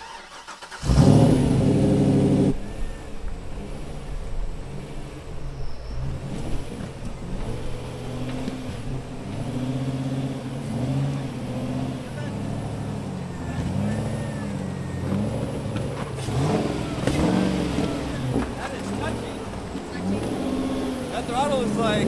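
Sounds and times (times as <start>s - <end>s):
buggy engine revving: 0.0s - 22.0s.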